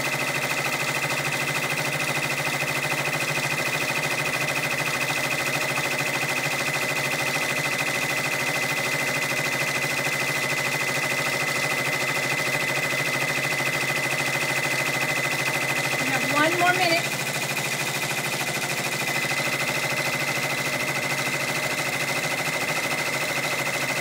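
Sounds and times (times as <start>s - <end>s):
embroidery machine stitching: 0.0s - 24.0s.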